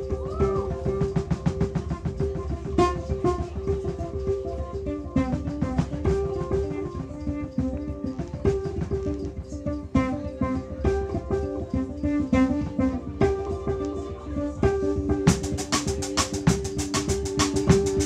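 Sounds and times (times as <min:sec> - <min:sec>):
drum kit beat: 0:00.0 - 0:13.7, 0:14.6 - 0:18.0
cello plucked pizzicato: 0:00.0 - 0:18.0.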